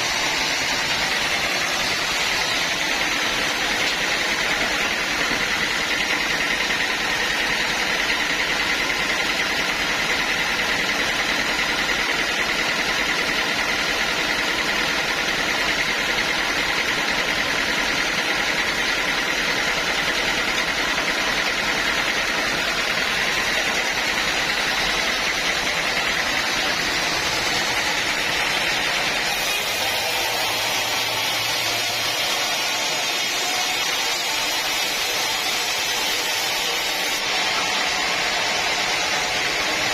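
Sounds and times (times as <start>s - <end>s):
sawmill saw cutting a log: 0.0s - 39.9s.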